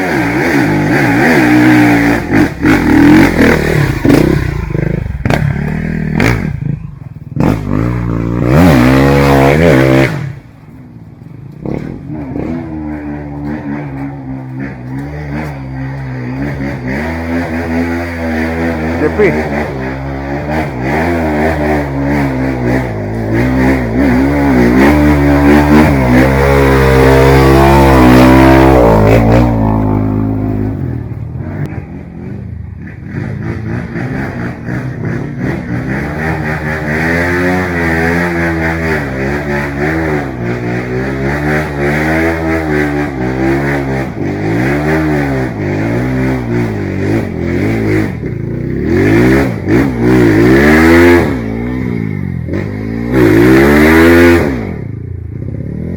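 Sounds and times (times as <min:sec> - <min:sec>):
dirt bike engine revving: 0:00.0 - 0:10.6, 0:11.6 - 0:55.9.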